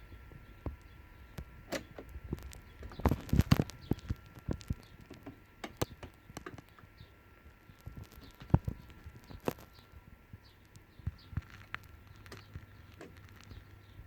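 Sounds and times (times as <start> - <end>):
stylus crackle and pops: 0.6 - 14.0.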